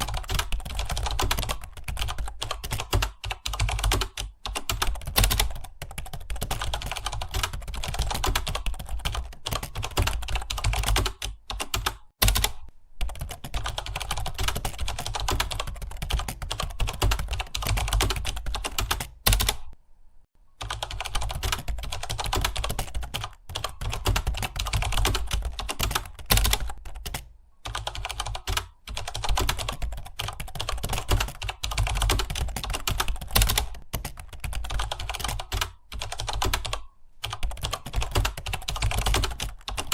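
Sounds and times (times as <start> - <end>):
rapid typing on keyboard: 0.0 - 19.8, 20.6 - 39.9.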